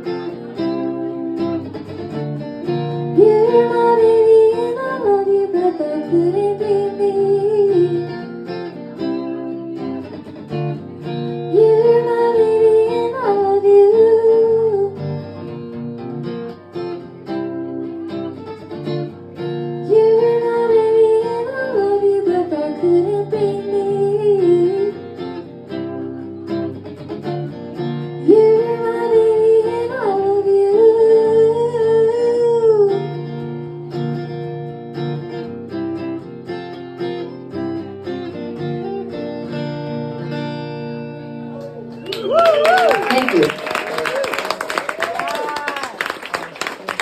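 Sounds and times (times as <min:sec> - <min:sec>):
acoustic guitar strumming chords: 0:00.0 - 0:42.0.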